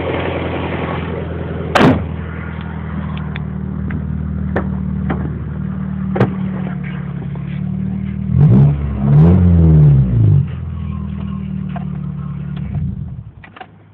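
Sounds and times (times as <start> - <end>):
car engine idling and revving: 0.0 - 13.9.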